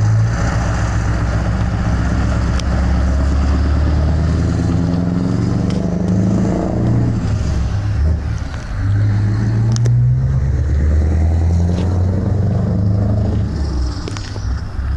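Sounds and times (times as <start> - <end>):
vehicle engine under load: 0.0 - 14.9.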